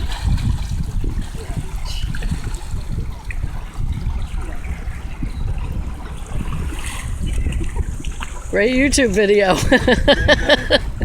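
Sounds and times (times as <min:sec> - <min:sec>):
water lapping at the shore: 0:00.0 - 0:11.0
wind buffeting the microphone: 0:00.0 - 0:11.0.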